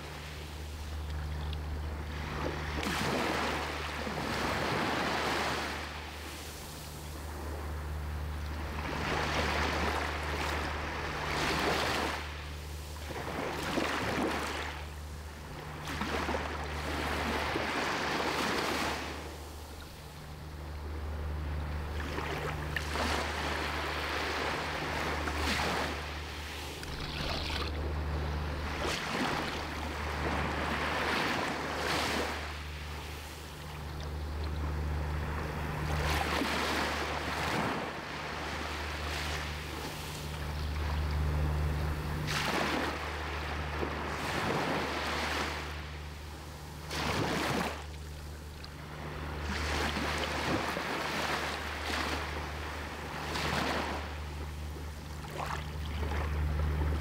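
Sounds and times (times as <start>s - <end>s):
waves breaking on sandy beach: 0.0s - 57.0s.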